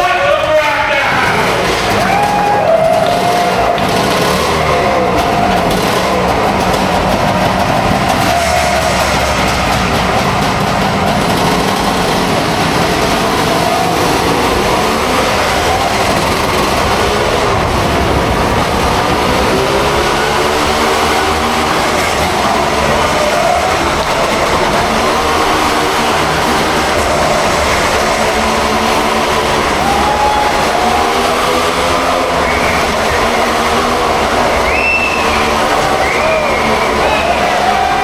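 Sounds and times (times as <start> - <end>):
engines droning: 0.0 - 38.0.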